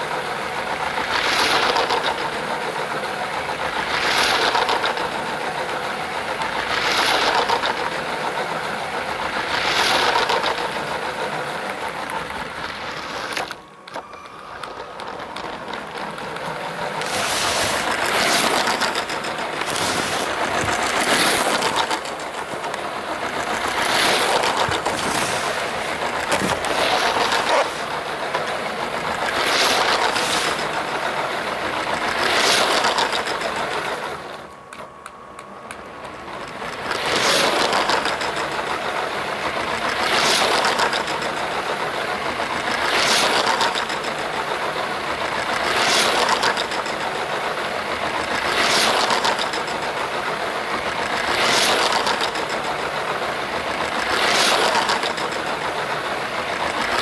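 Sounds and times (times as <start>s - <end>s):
toy train motor whirring: 0.0s - 34.8s, 35.8s - 57.0s
wheels rattling over plastic track: 0.0s - 34.9s, 35.7s - 57.0s.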